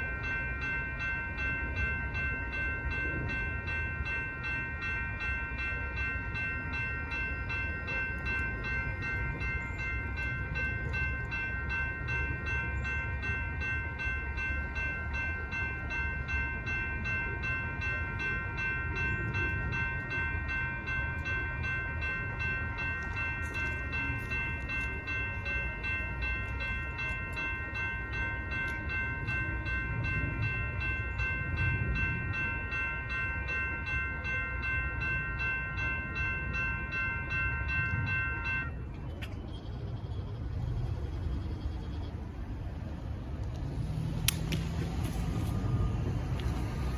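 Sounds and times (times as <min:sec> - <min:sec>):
railroad crossing bell ringing: 0:00.0 - 0:46.9.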